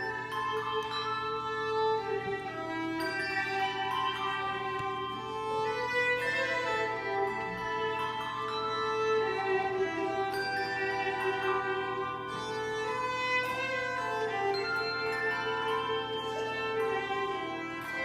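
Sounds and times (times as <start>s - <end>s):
handbell choir ringing a hymn: 0.0s - 18.0s.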